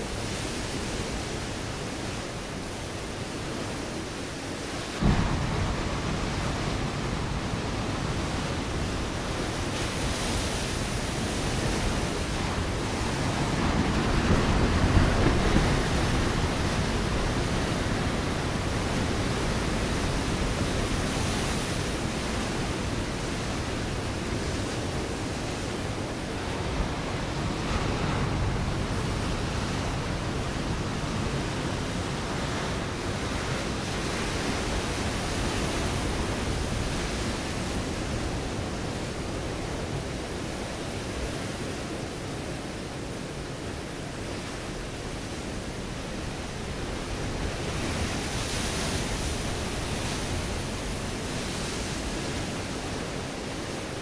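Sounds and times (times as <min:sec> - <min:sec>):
ocean waves breaking on rocks: 0:00.0 - 0:54.0.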